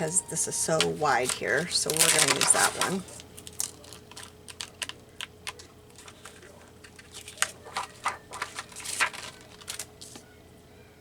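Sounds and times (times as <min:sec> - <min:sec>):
paper rustling and tapping: 0:00.6 - 0:10.3.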